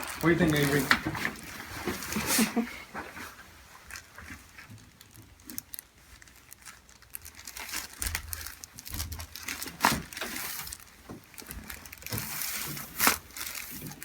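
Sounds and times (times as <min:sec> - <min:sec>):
rustling and crinkling on table: 0:00.0 - 0:14.0.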